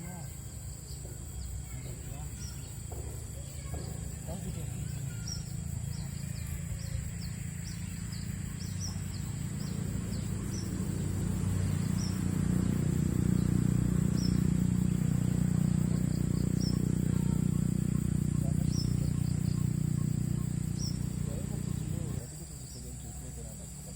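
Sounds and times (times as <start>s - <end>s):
bird chirping: 0.0s - 23.9s
insect drone: 0.0s - 23.9s.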